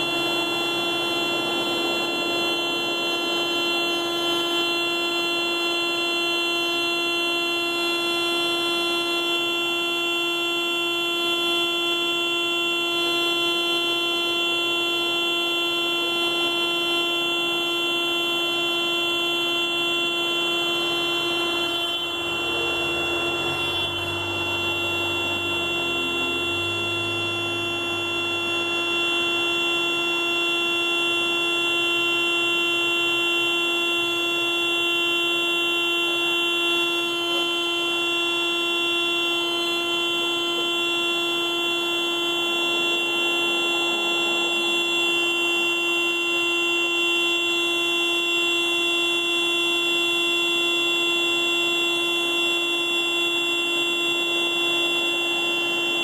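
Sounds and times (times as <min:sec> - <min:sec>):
car alarm steady horn tone: 0:00.0 - 0:56.0.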